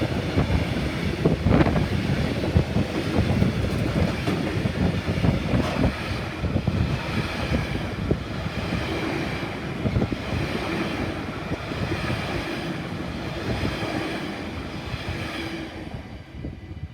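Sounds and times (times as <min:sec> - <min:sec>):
freight train rumbling past: 0:00.0 - 0:16.9
wind buffeting microphone: 0:00.0 - 0:16.9.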